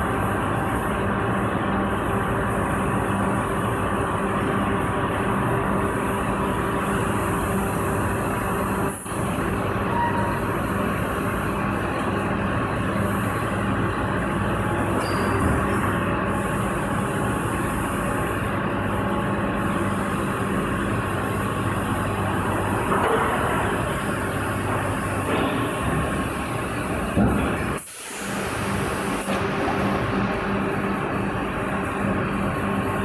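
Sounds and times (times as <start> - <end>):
injection molding machine hum: 0.0 - 33.0.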